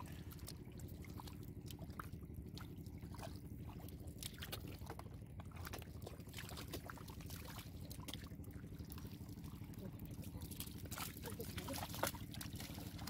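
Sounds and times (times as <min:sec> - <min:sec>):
low hum: 0:00.0 - 0:13.0
splashing in muddy water: 0:00.0 - 0:13.0.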